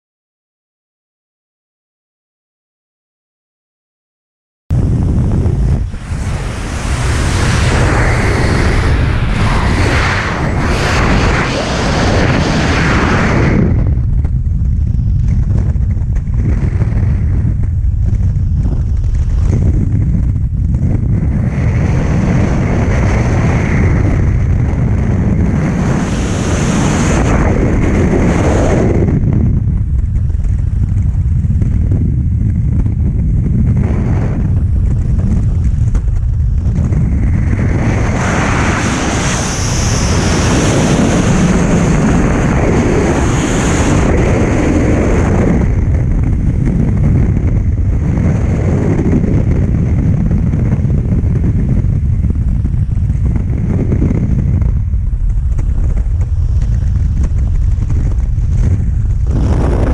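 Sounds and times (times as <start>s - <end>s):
wind buffeting microphone: 4.7s - 59.9s.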